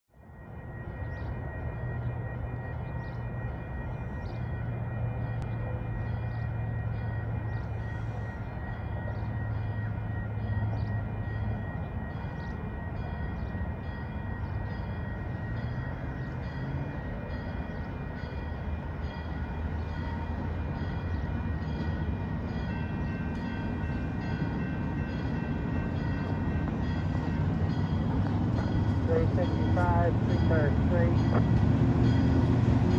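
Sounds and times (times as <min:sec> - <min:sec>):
diesel locomotive engine hum: 0:00.1 - 0:32.9.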